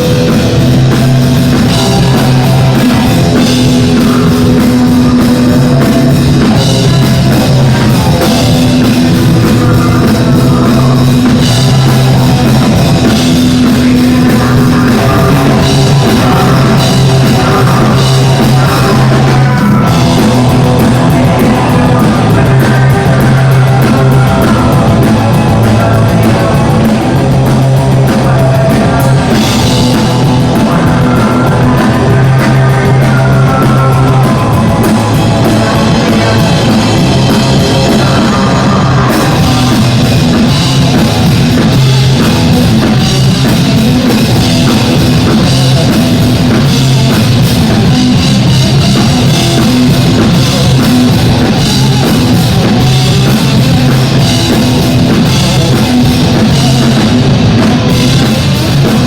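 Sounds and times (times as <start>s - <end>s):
drum kit: 0.0s - 59.0s
live rock band playing: 0.0s - 59.0s
sustained low notes: 0.0s - 59.0s.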